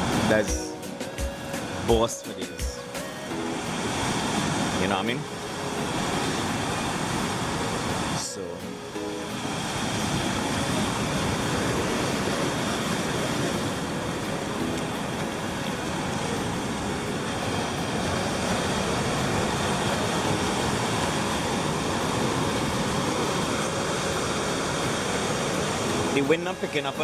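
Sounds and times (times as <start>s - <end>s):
ocean surf washing onto beach: 0.0s - 27.0s.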